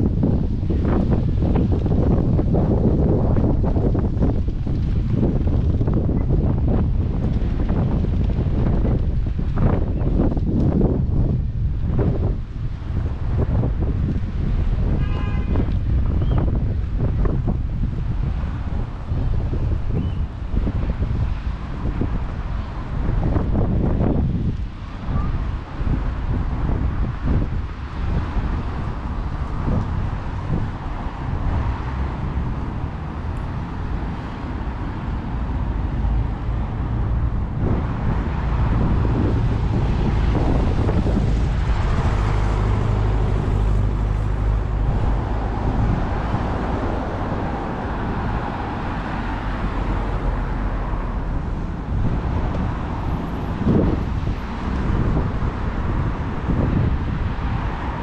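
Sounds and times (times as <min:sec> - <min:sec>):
road traffic passing: 0:00.0 - 0:58.0
vehicle engine hum: 0:00.0 - 0:58.0
wind buffeting microphone: 0:00.0 - 0:58.0.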